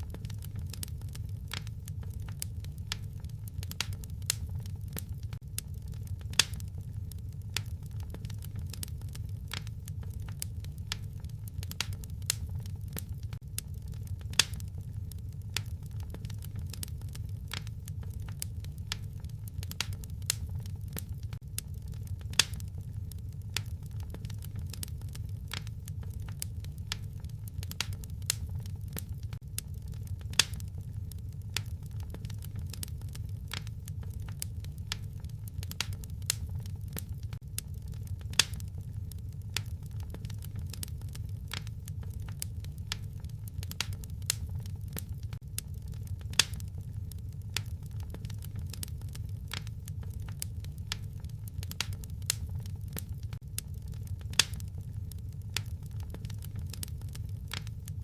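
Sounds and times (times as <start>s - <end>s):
steady low rumble: 0.0s - 58.0s
wood fire crackling: 0.0s - 58.0s.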